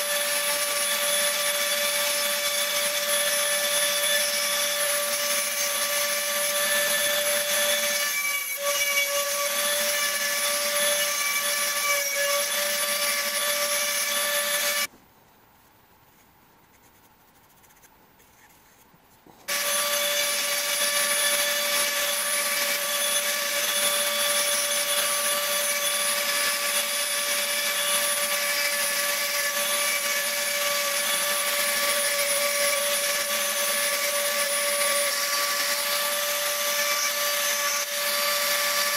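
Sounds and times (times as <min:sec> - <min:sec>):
rotary tool high-pitched whine: 0:00.0 - 0:14.9, 0:19.5 - 0:38.9.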